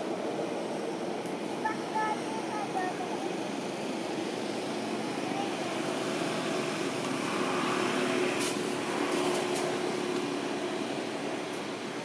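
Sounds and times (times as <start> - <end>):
engine noise: 0.0 - 12.0.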